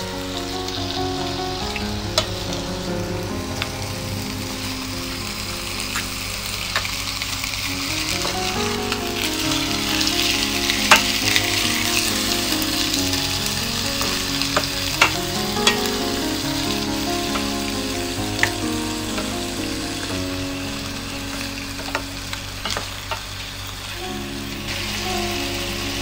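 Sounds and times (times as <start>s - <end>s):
meat sizzling in hot oil: 0.0s - 26.0s
soft background music: 0.0s - 26.0s.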